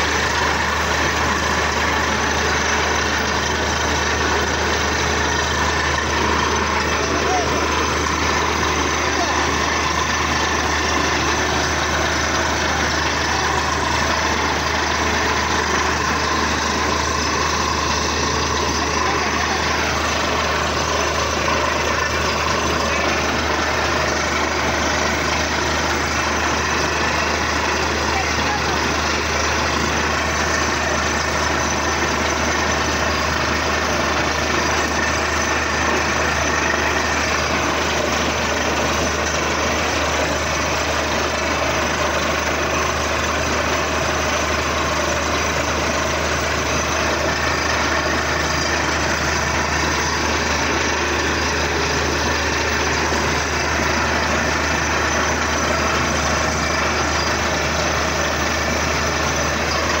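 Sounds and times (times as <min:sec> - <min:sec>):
drilling rig mechanical noise: 0:00.0 - 1:00.0
low engine drone: 0:00.0 - 1:00.0.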